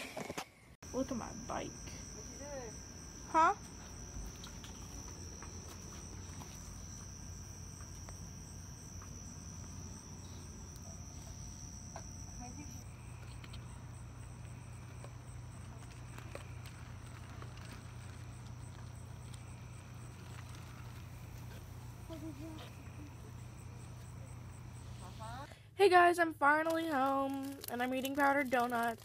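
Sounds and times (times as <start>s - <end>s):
crickets trilling: 0.8s - 25.5s, 26.8s - 29.0s.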